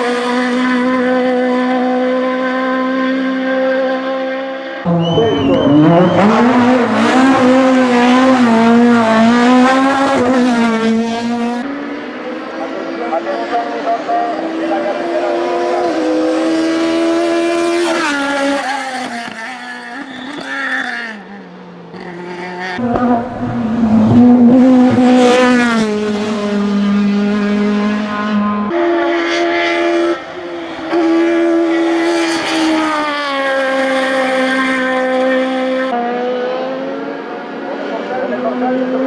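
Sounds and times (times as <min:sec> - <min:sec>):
car engine revving and shifting: 0:00.0 - 0:39.0.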